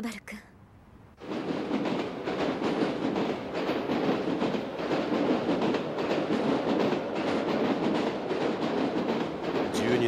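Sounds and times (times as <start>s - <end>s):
train rumbling past: 0.8s - 10.0s
train wheels clattering: 1.2s - 10.0s.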